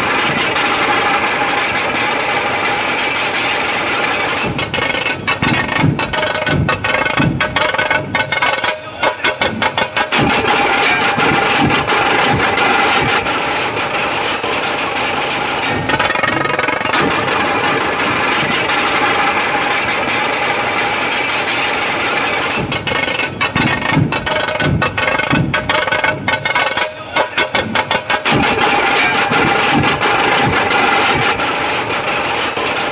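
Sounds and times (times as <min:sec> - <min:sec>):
heavy drum beats: 0:00.0 - 0:32.9
rapid snare drum rolls: 0:00.0 - 0:32.9.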